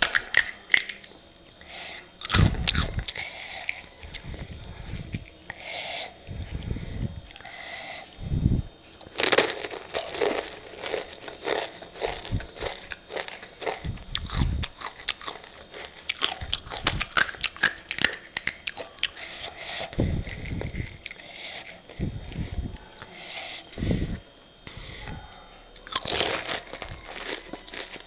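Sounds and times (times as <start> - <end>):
crunching and chewing crisp shells: 0.0 - 28.0.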